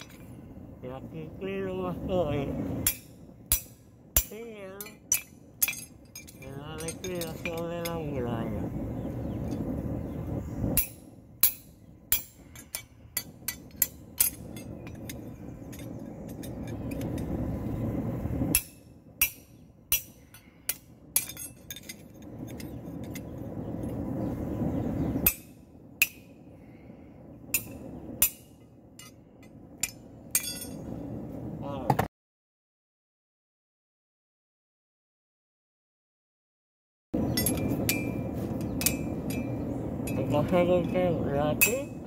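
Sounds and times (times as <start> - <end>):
low rumble: 0.0 - 20.4, 21.0 - 31.9, 37.2 - 42.0.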